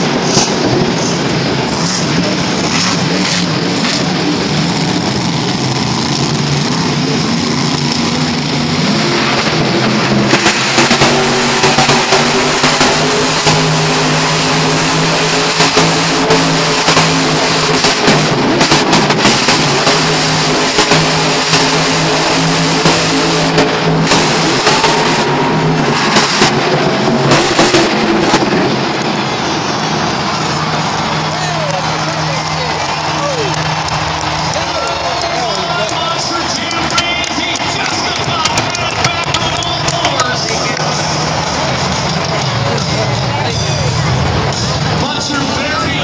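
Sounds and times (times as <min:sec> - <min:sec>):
truck engine revving: 0:00.0 - 0:46.0.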